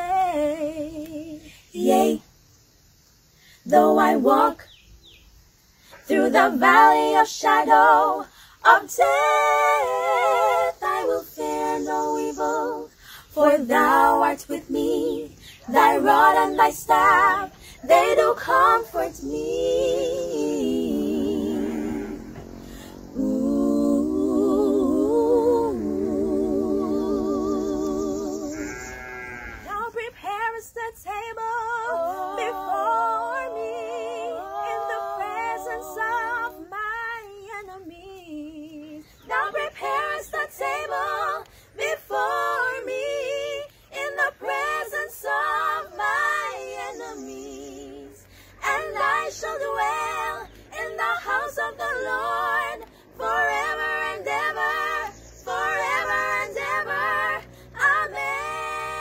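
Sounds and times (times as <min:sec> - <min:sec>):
women singing in harmony: 0:00.0 - 0:02.7, 0:03.4 - 0:59.0.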